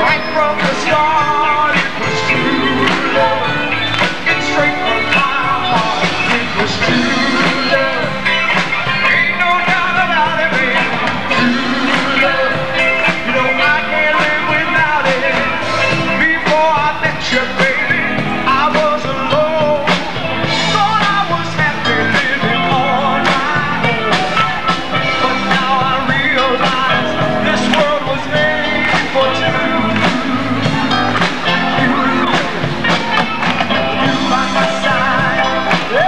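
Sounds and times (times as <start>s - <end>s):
drum beat: 0.0s - 36.0s
keyboards: 0.0s - 36.0s
man singing: 0.0s - 36.0s.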